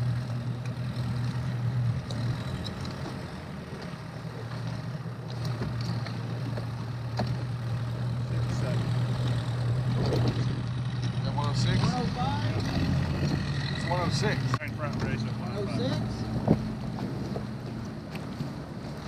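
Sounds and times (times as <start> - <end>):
outboard motors idling: 0.0 - 19.0.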